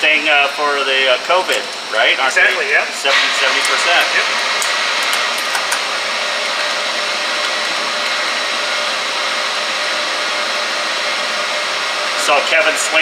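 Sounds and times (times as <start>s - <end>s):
brewery machinery whooshing: 0.0s - 13.0s.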